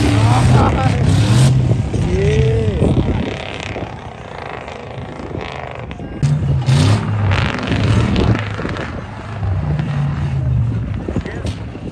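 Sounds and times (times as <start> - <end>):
truck engine revving: 0.0 - 11.9.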